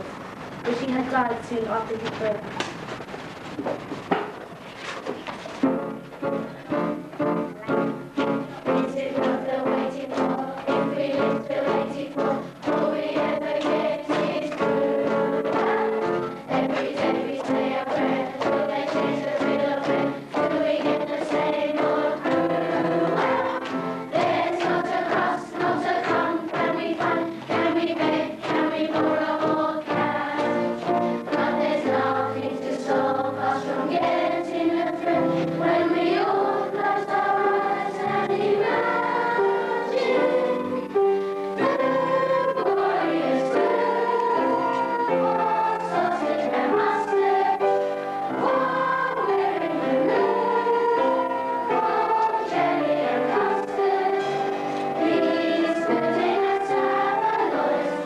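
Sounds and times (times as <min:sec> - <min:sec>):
instrumental accompaniment with beat: 0:02.8 - 0:57.8
children's chorus singing: 0:05.6 - 0:58.0.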